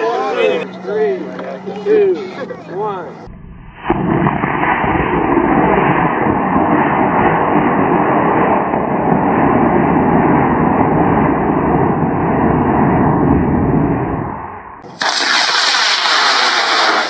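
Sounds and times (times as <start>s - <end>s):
rocket motor roaring: 0.0s - 17.0s.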